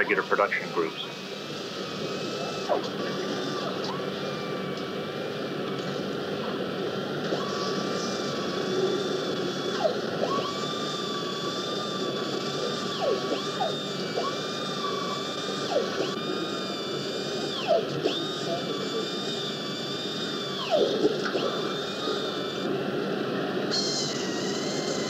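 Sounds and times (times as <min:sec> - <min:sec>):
air nut runner whining: 0:00.0 - 0:06.3, 0:07.1 - 0:25.0
factory machinery hum: 0:00.0 - 0:25.0.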